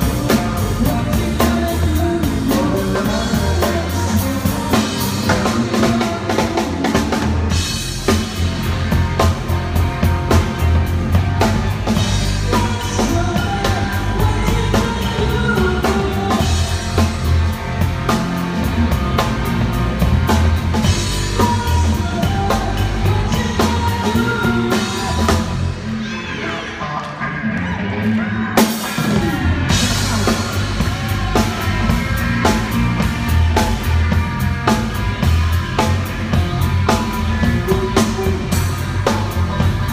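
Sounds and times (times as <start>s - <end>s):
drum kit: 0.0s - 26.2s, 28.0s - 39.9s
electric guitars: 0.0s - 39.9s
live rock band playing: 0.0s - 39.9s.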